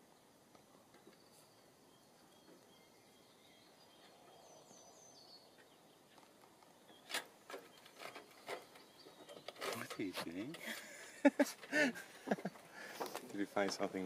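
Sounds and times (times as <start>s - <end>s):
faint bird chirps: 0.0s - 12.8s.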